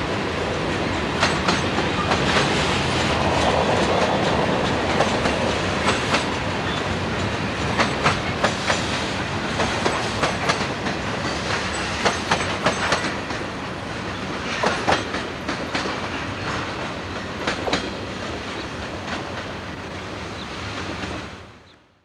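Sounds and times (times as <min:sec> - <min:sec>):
train wheels clacking: 0:00.0 - 0:21.4
freight train rumble: 0:00.0 - 0:21.8.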